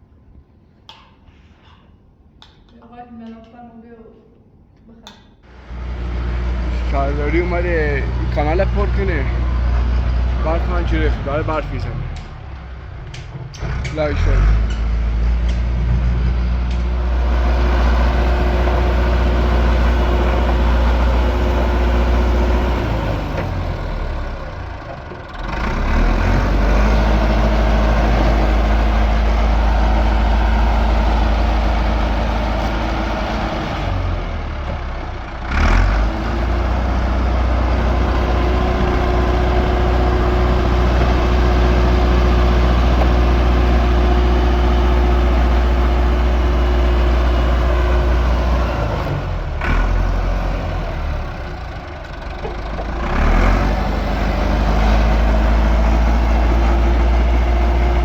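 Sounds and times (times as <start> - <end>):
heavy machinery engine humming: 5.5 - 58.0.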